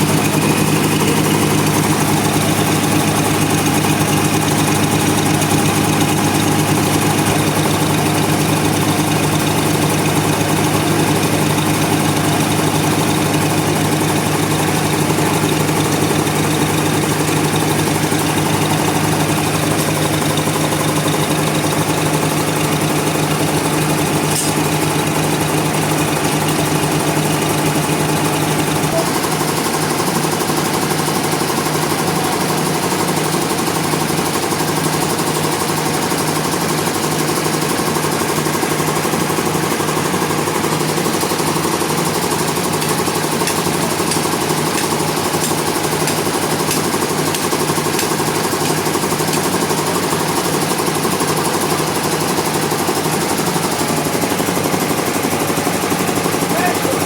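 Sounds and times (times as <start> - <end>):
sawmill engine drone: 0.0 - 57.0.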